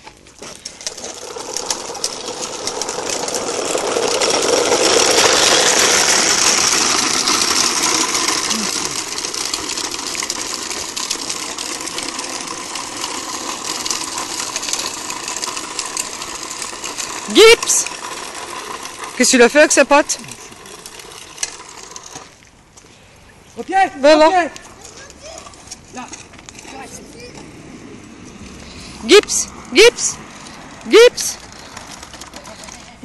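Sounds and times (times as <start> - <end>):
plastic wheels rolling on rough path: 0.0 - 33.0.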